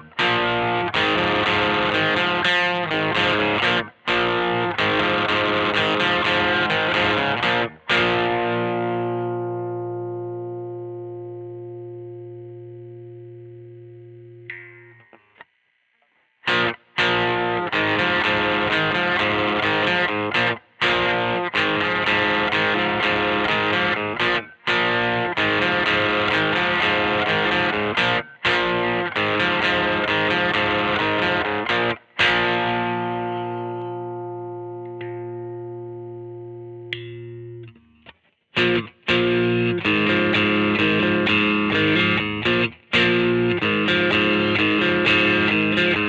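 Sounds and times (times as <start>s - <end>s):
distorted electric guitar chords: 0.0s - 15.4s, 16.4s - 38.0s, 38.6s - 46.0s.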